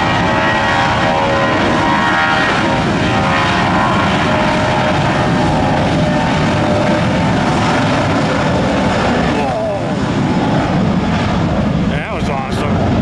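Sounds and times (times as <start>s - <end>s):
whining tones: 0.0s - 11.9s
jet engines rushing: 0.0s - 13.0s.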